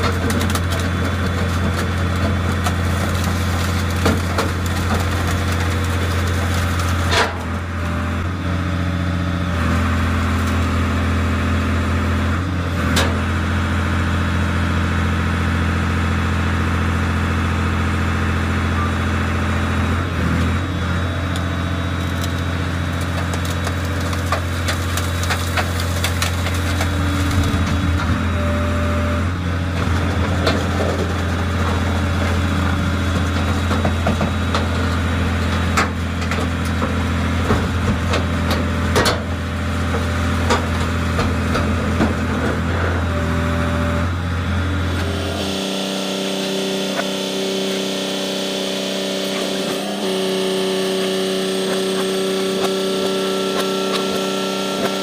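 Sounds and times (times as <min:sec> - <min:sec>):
engine and hydraulics running: 0:00.0 - 0:55.0.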